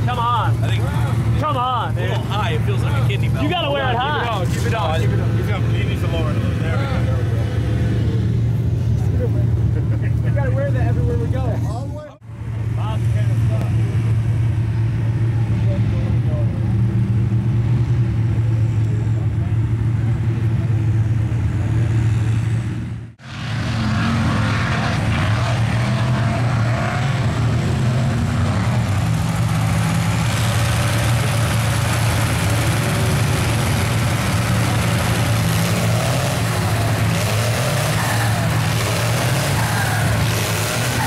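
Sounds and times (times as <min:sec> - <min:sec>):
truck engine revving: 0:00.0 - 0:11.5, 0:12.8 - 0:41.0.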